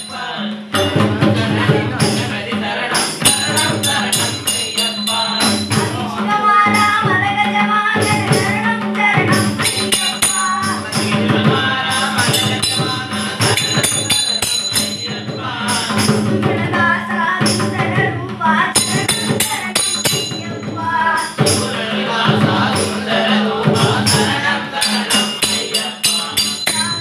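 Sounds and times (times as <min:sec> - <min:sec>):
hand drum playing: 0:00.0 - 0:27.0
jingling percussion: 0:00.0 - 0:27.0
people singing: 0:00.0 - 0:27.0.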